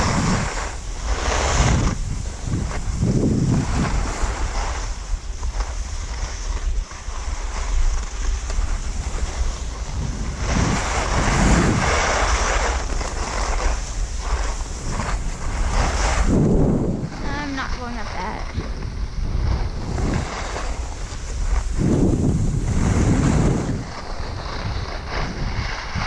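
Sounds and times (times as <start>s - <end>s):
skis sliding on snow: 0.0s - 26.0s
wind rushing over microphone: 0.0s - 26.0s.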